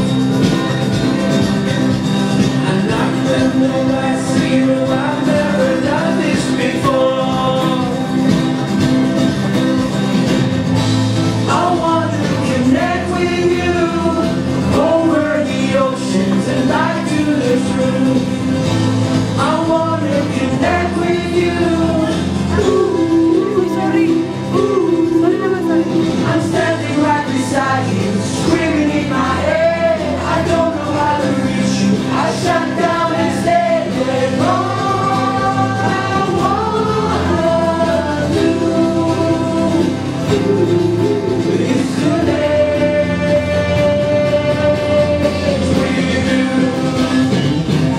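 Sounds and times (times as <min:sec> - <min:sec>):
men singing: 0:00.0 - 0:09.9, 0:11.2 - 0:47.9
acoustic guitar strumming: 0:00.0 - 0:47.9.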